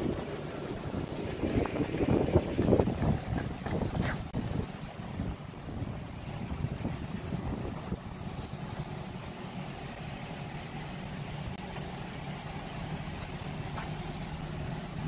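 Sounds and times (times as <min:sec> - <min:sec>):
car engine idling: 0:00.0 - 0:15.0
faint street noise: 0:00.0 - 0:15.0.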